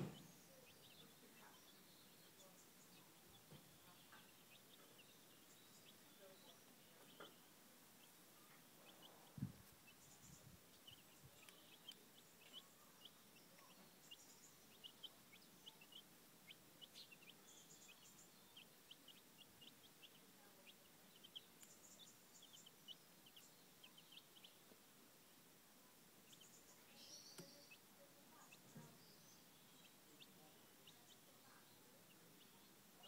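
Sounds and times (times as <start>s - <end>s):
chicks peeping: 0.0s - 33.0s.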